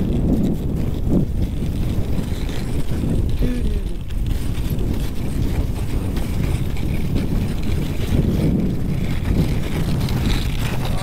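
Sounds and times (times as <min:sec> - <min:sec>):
sled runners on snow: 0:00.0 - 0:11.0
wind buffeting microphone: 0:00.0 - 0:11.0.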